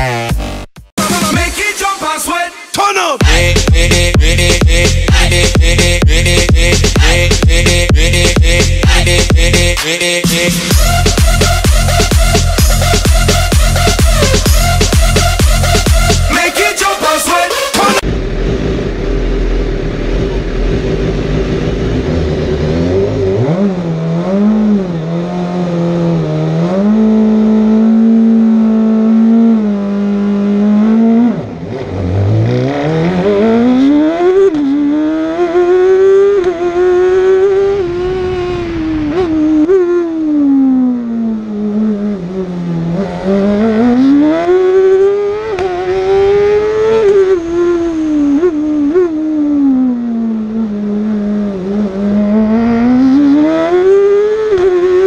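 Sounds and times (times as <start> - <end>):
race car engine revving: 3.2 - 55.0.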